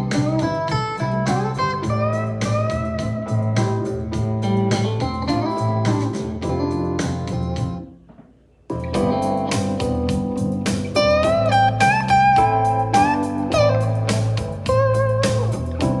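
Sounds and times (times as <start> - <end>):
steady bass line: 0.0 - 8.0, 8.7 - 16.0
guitar with bending notes: 0.0 - 16.0
regular drum beat: 0.0 - 16.0.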